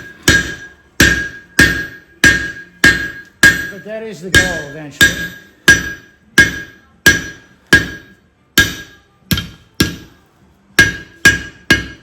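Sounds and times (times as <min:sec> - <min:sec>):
hammer striking hot steel: 0:00.0 - 0:10.2, 0:10.8 - 0:12.0.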